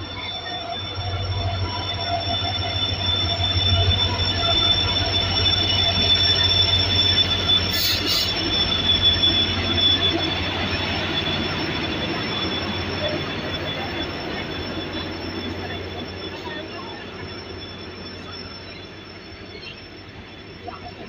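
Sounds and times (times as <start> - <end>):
high-pitched squeal: 0.0 - 21.0
train rumbling past: 0.0 - 21.0.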